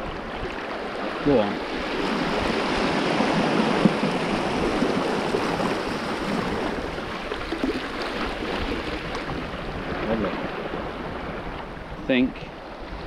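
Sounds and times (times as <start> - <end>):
small waves washing: 0.0 - 13.0.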